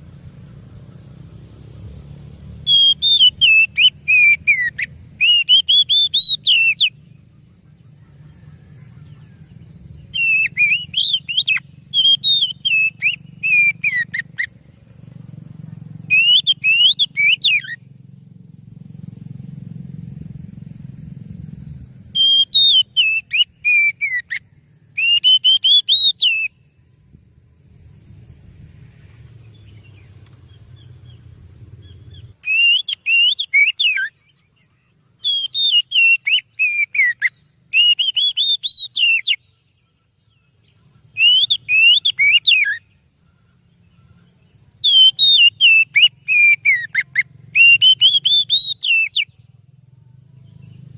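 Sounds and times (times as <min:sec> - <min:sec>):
bird singing whistled notes: 0:00.0 - 0:19.2, 0:19.9 - 0:50.9.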